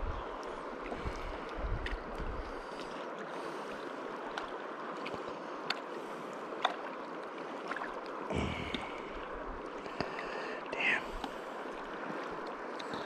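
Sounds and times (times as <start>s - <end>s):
river flowing over rocks: 2.0s - 13.0s.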